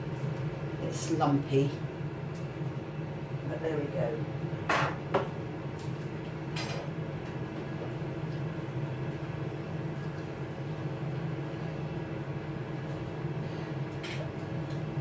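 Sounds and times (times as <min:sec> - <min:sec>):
air fryer humming: 0:00.0 - 0:15.0.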